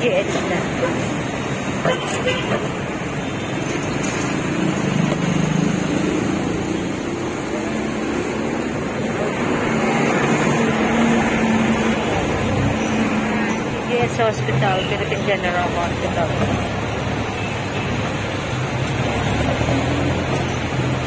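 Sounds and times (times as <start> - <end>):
road and traffic noise: 0.0 - 21.0.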